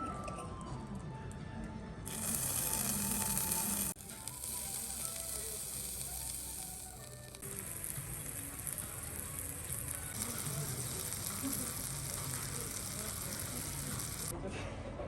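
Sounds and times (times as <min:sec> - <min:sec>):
food sizzling in a pan: 0:02.1 - 0:14.3.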